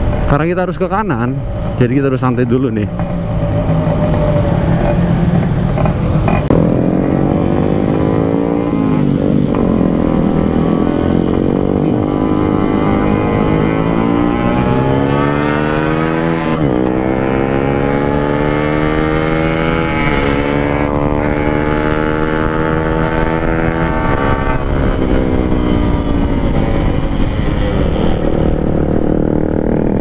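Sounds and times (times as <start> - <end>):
motorcycle engine accelerating: 1.4 - 30.0.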